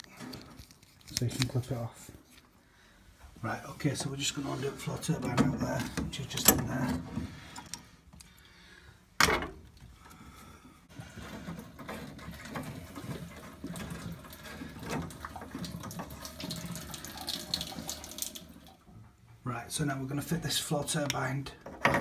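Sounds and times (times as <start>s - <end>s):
water trickling from pipes: 0.0s - 8.4s, 10.9s - 21.3s.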